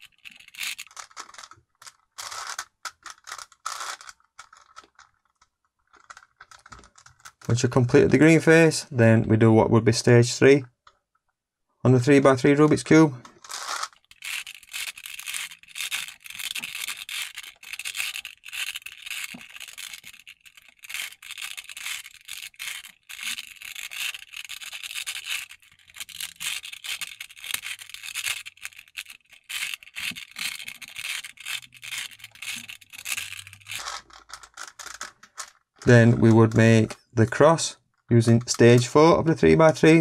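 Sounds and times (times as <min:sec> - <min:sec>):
puzzle cube layers twisting clicks: 0:00.0 - 0:07.7, 0:13.2 - 0:37.6.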